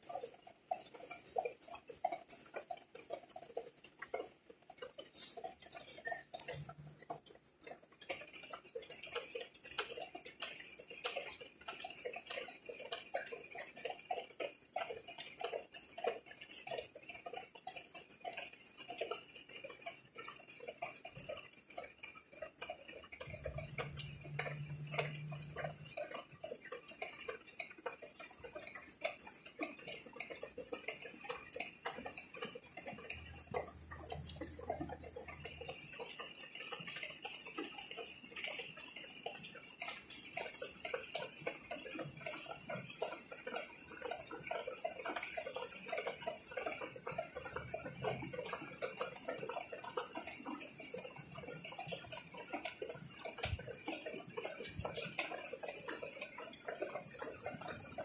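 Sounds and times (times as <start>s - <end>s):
rain patter on leaves and pots: 0.0s - 58.0s.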